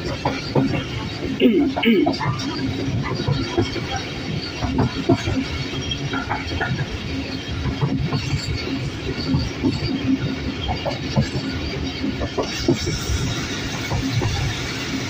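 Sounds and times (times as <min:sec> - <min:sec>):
train rolling rumble: 0:00.0 - 0:15.0
wheels clicking on rails: 0:00.0 - 0:15.0.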